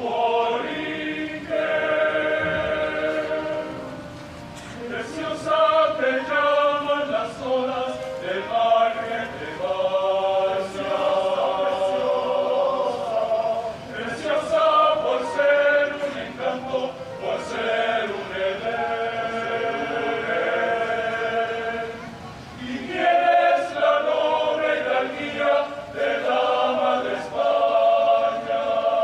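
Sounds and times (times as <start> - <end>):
men's choir singing in harmony: 0.0 - 29.0.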